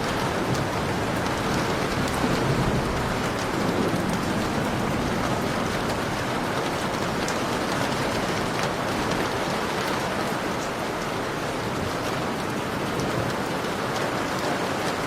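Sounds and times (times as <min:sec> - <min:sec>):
distant thunder rumble: 0:00.0 - 0:13.4
heavy rain falling: 0:00.0 - 0:15.0.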